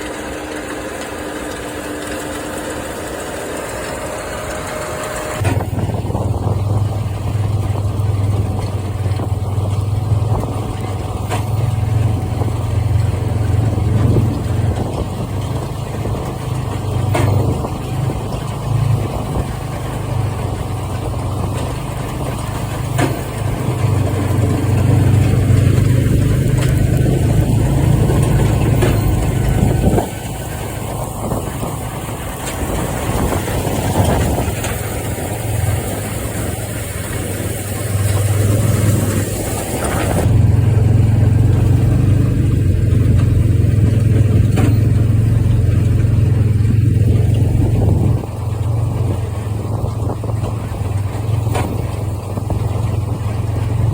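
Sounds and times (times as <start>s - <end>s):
low engine drone: 0.0s - 53.9s.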